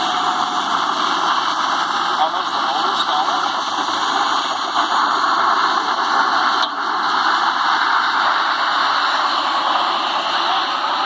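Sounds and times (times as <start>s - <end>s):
boat engine and rushing water: 0.0s - 11.0s.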